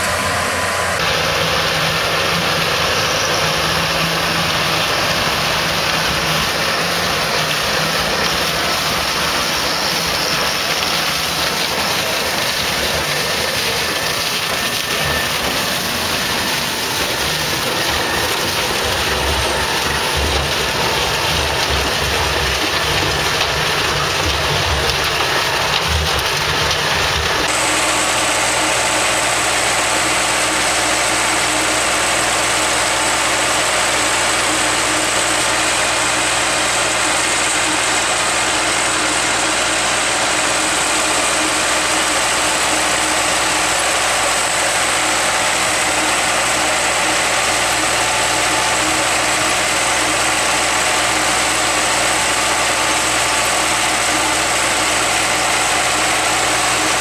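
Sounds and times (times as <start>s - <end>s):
harvester engine and machine noise: 0.0s - 57.0s
tractor and harvester running: 0.0s - 57.0s.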